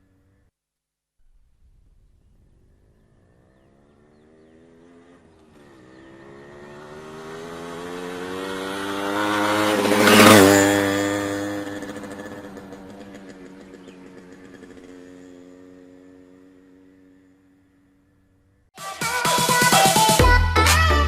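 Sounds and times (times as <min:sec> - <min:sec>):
motorcycle passing by: 0:00.0 - 0:00.5, 0:01.7 - 0:18.7.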